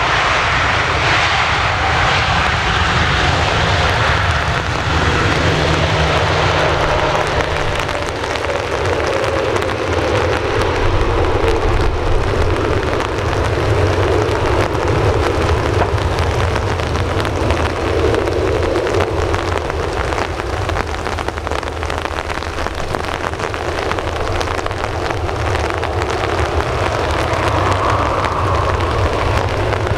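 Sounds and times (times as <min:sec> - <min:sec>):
jet engines rumbling at low power: 0:00.0 - 0:29.9
rain pattering: 0:00.0 - 0:29.9.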